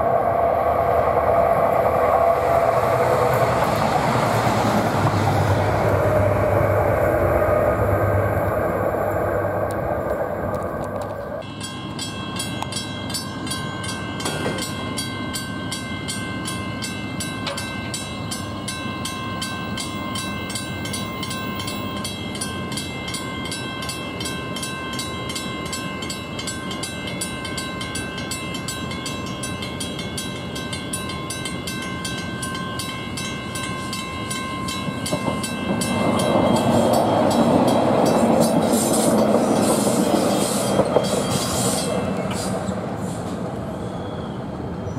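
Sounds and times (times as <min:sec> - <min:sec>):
train rumble: 0:00.0 - 0:44.9.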